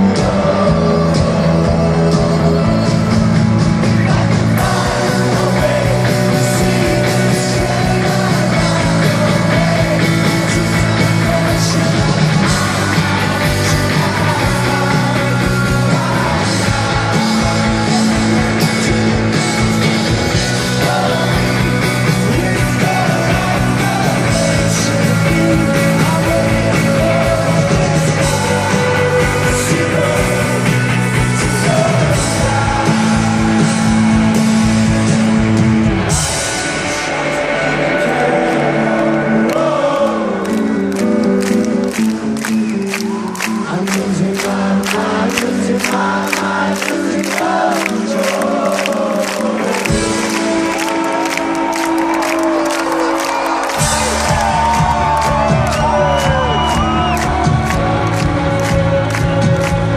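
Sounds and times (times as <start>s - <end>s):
person singing: 0.0s - 35.2s, 36.2s - 59.9s
bass guitar: 0.0s - 59.9s
drums: 0.0s - 59.9s
electric guitars: 0.0s - 59.9s.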